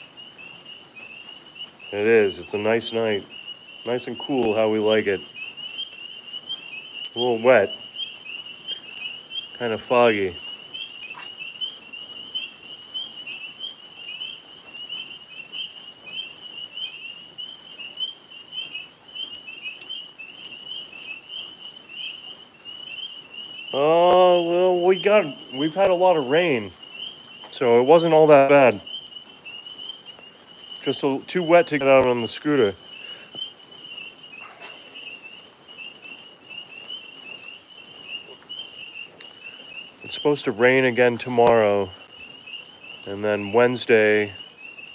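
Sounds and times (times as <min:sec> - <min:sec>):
tree frogs chirping chorus: 0:00.0 - 0:44.9.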